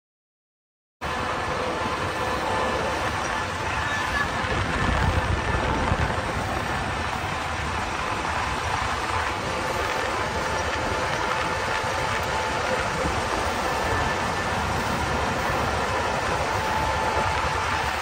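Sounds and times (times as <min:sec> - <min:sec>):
diesel engine running: 0:01.0 - 0:18.0
faint steady whine: 0:01.0 - 0:18.0
wind rumbling on microphone: 0:01.0 - 0:18.0.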